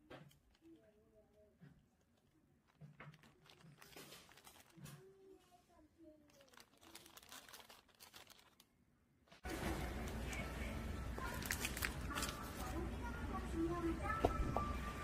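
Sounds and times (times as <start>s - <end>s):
plastic bag crinkling: 0.2s - 10.4s, 11.1s - 13.0s.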